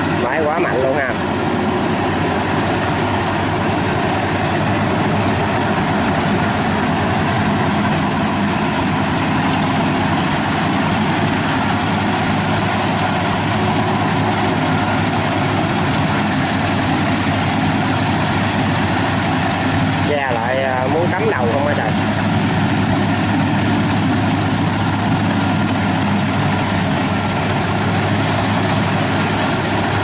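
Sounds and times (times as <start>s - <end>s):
combine harvester droning: 0.0s - 30.0s.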